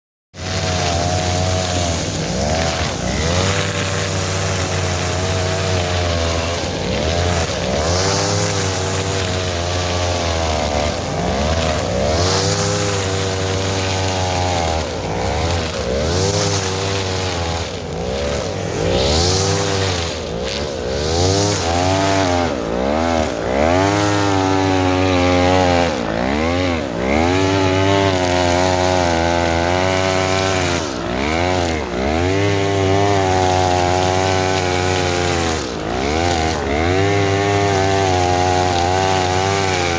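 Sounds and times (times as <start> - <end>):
brush cutter cutting grass: 0.4 - 39.9.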